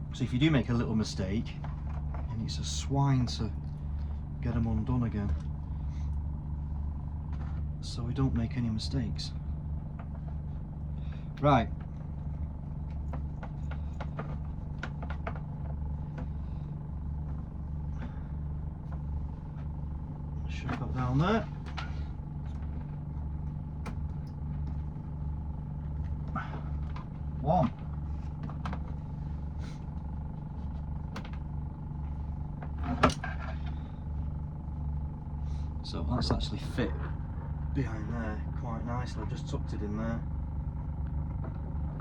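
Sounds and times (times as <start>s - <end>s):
pulsing low hum: 0.0s - 42.0s.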